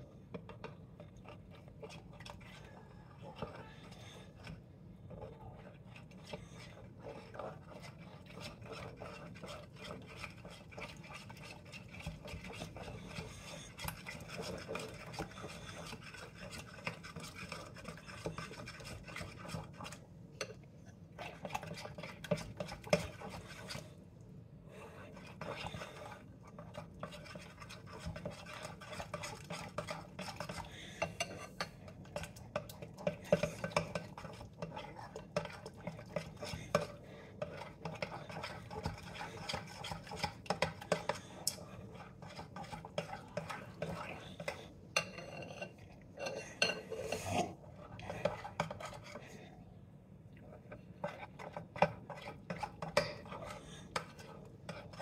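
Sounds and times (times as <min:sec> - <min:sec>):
spoon scraping and stirring in bowl: 0:00.0 - 0:24.0, 0:24.7 - 0:49.6, 0:50.4 - 0:55.0.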